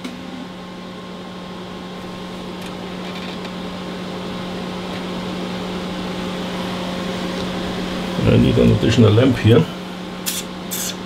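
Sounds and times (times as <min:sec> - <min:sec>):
test equipment hum with fan hiss: 0:00.0 - 0:11.0.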